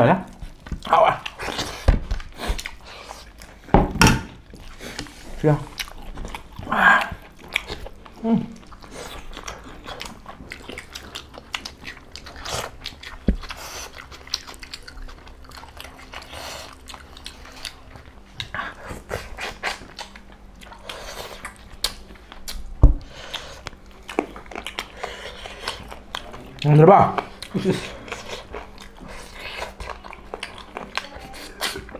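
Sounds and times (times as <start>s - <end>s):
chewing and lip smacks: 0.3s - 3.7s, 4.3s - 31.9s.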